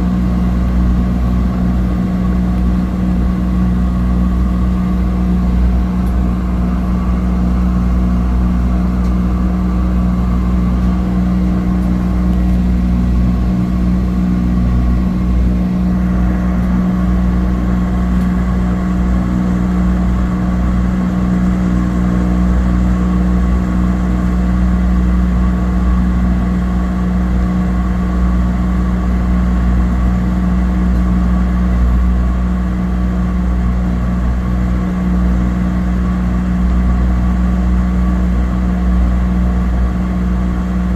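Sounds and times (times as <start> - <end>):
propeller engine droning: 0.0 - 40.9.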